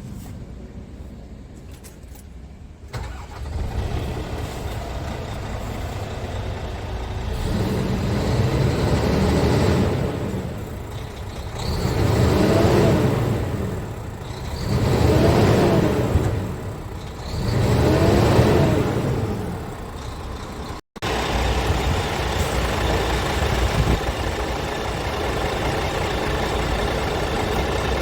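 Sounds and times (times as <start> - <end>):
diesel truck engine revving: 2.9 - 28.0.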